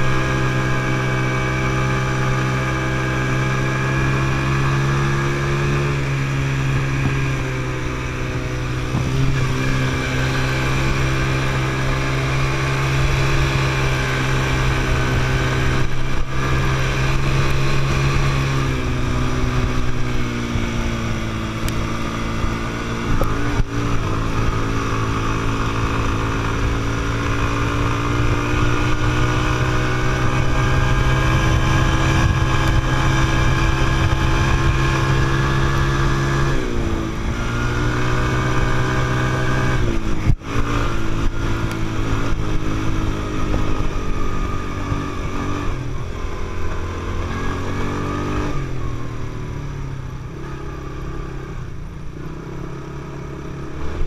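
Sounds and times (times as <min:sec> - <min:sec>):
quad bike engine running: 0:00.0 - 0:54.0.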